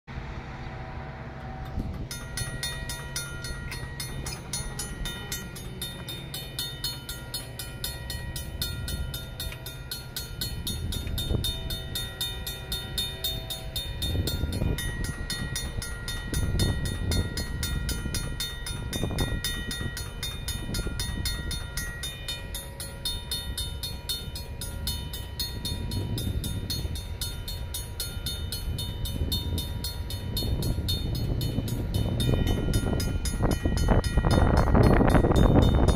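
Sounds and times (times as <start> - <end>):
railroad crossing bells ringing: 0.1 - 35.9.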